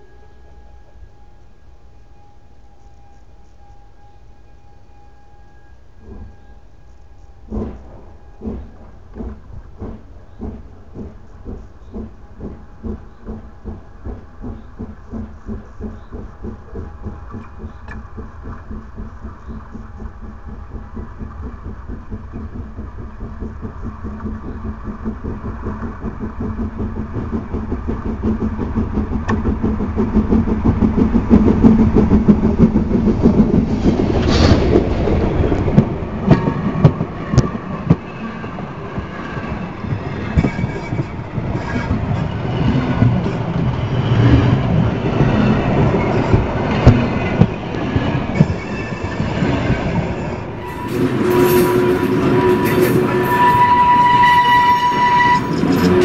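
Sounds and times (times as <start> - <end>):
steam locomotive rhythmic beats: 0.0 - 56.0
train wheels clattering on rails: 5.9 - 56.0.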